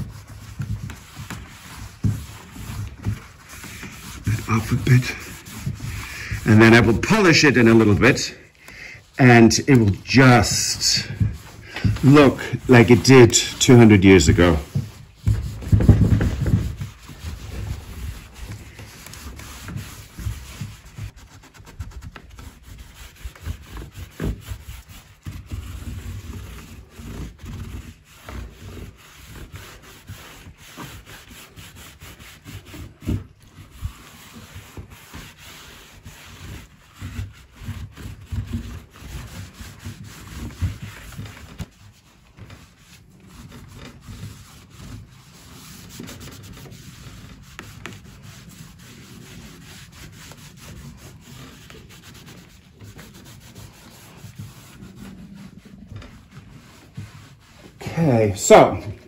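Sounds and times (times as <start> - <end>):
cloth rubbing wax into wood: 0.0 - 59.0.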